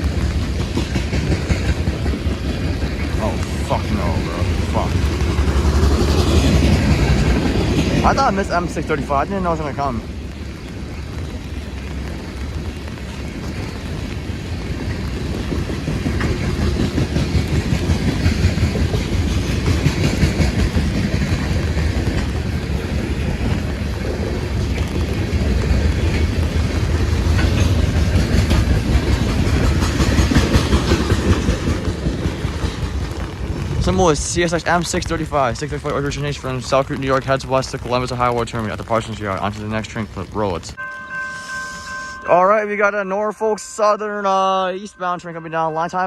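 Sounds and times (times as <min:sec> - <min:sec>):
wheels clicking over rail joints: 0:00.0 - 0:40.8
freight train rumbling past: 0:00.0 - 0:46.0.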